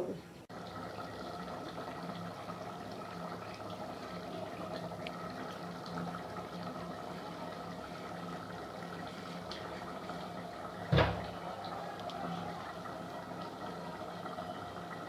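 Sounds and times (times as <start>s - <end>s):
faint bubbling: 0.0s - 15.0s
pot boiling with hiss: 0.0s - 15.0s.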